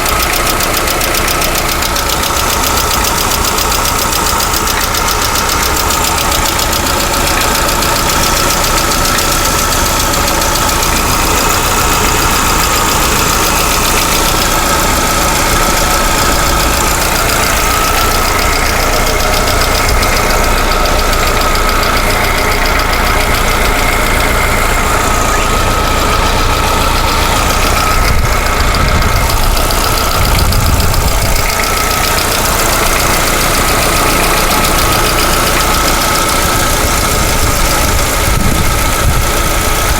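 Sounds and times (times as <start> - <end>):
engine idling: 0.0 - 39.9
rapid ticking knock of valve lifters: 0.0 - 39.9.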